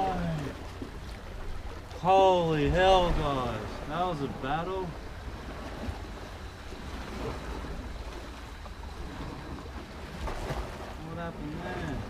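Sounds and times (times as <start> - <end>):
waves washing against rocks: 0.0 - 12.0.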